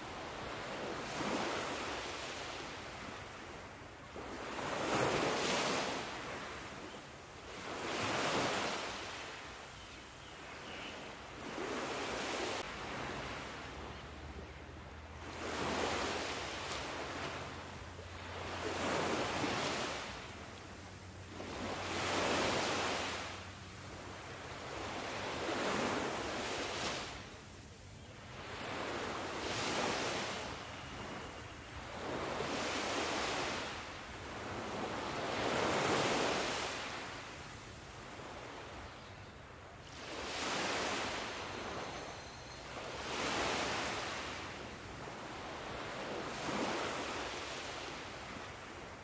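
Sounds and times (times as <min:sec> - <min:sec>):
ocean waves washing on beach: 0:00.0 - 0:09.8, 0:10.6 - 0:49.0.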